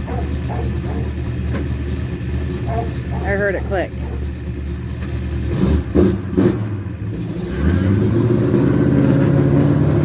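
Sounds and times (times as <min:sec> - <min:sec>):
pickup truck engine revving: 0:00.0 - 0:10.0.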